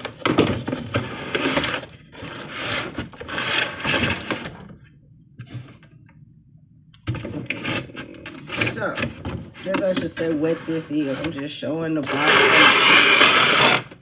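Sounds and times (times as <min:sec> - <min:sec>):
box rubbing and scraping: 0:00.0 - 0:04.6, 0:07.2 - 0:14.0.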